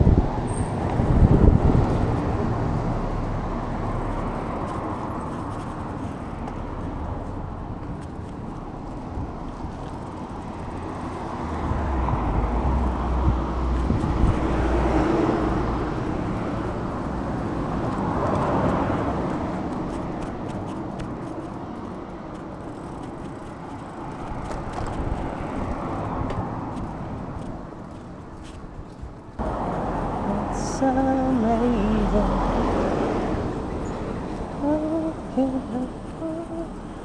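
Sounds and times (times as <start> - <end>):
cars going by: 0.0 - 37.0.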